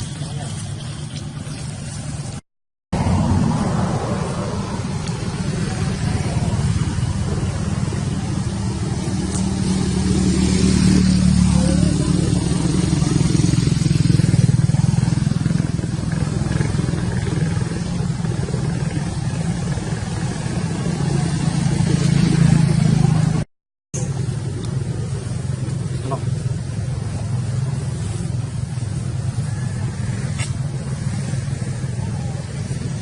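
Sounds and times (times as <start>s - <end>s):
motor engine droning: 3.0s - 33.0s.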